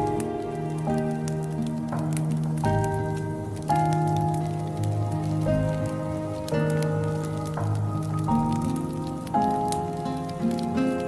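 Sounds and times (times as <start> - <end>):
soft music of held notes: 0.0 - 11.0
wood fire crackling: 0.0 - 11.0.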